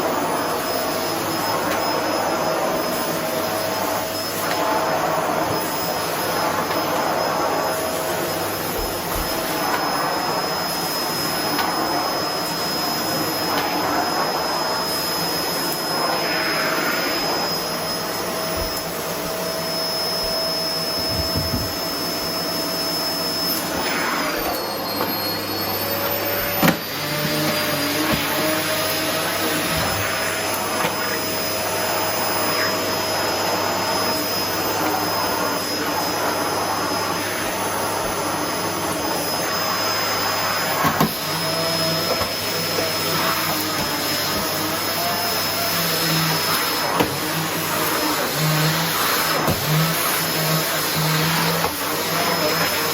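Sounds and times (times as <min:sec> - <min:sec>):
vacuum cleaner motor whine: 0:00.0 - 0:52.9.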